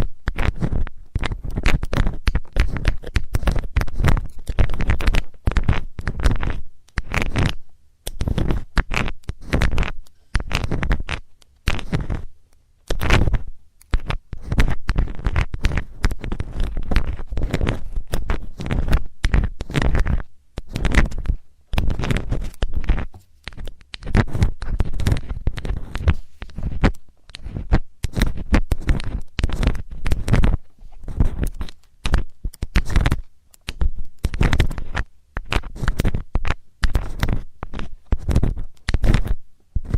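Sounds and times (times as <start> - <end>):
metal tool scratching microphone: 0.0 - 12.3, 12.9 - 33.2.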